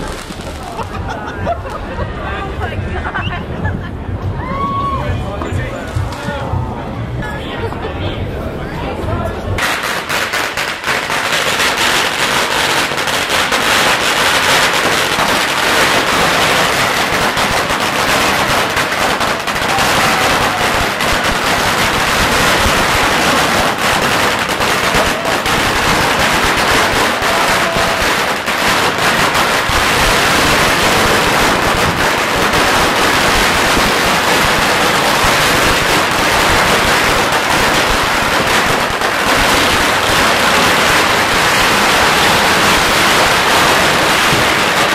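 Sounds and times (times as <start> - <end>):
firecrackers crackling rapidly: 0.0 - 3.8, 9.6 - 44.9.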